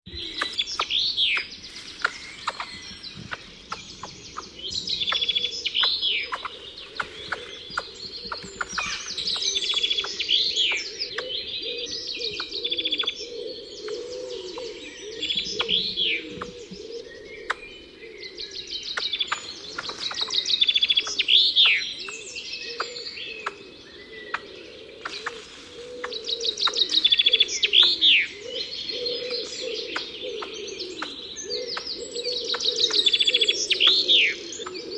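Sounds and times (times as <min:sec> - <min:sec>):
songbird trills and whistles: 0:00.1 - 0:34.9.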